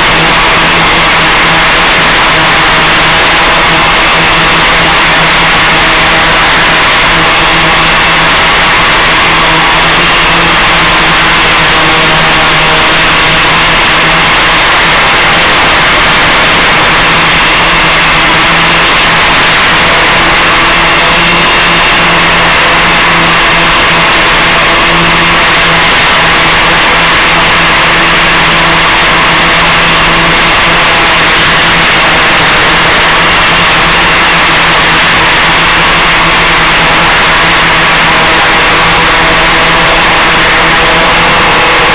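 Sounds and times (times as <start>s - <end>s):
electric motors and propellers humming: 0.0s - 41.9s
loud constant hiss: 0.0s - 41.9s.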